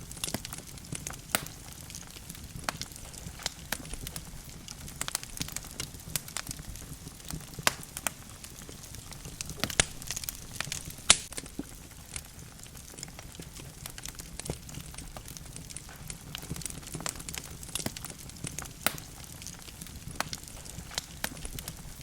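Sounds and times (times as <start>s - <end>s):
fire crackles and pops: 0.0s - 22.0s
low rumble of flame: 0.0s - 22.0s.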